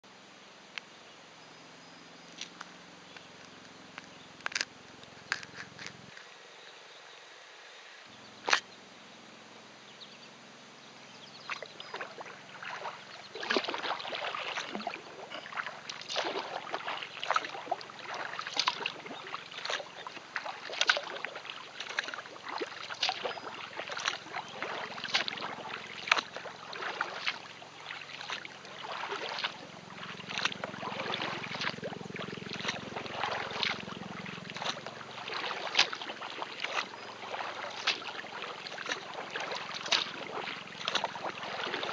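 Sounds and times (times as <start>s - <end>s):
kayak paddle dipping into water: 2.4s - 6.3s, 11.4s - 41.9s.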